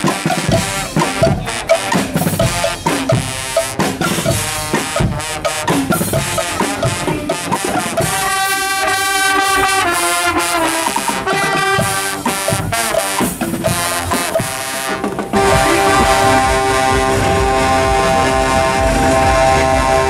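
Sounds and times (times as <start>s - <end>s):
brass band playing: 0.0s - 20.0s
drum beat: 0.0s - 20.0s
held brass chord: 0.0s - 20.0s.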